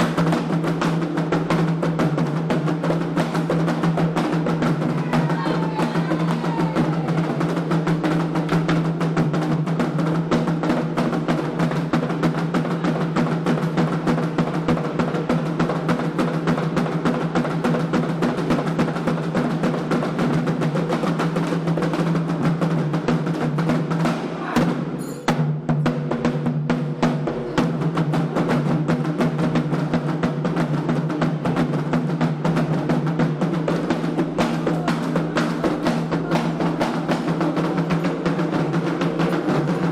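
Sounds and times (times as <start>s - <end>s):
hand drums playing fast rhythm: 0.0s - 39.9s.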